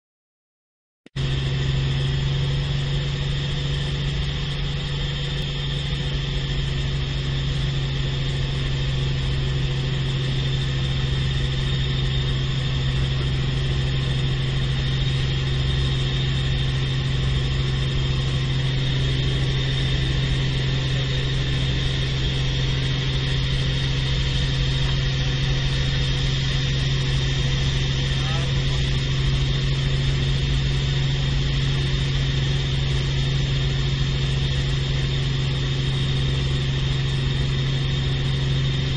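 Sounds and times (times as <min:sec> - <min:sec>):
helicopter engine and rotor drone: 0:01.1 - 0:38.9
high whine: 0:01.2 - 0:38.9.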